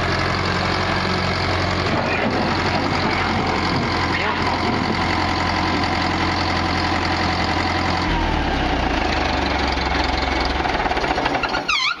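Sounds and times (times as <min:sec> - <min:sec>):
backhoe diesel engine running: 0:00.0 - 0:12.0.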